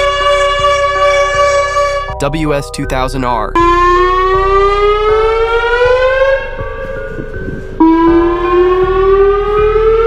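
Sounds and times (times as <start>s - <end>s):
warning siren rising in pitch: 0.0s - 2.2s, 3.6s - 10.0s.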